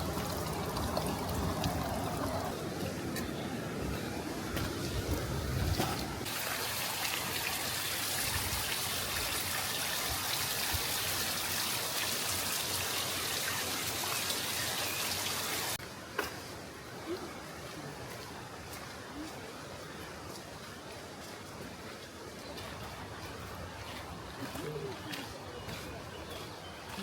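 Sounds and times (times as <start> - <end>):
stream water running over rocks: 0.0 - 27.0.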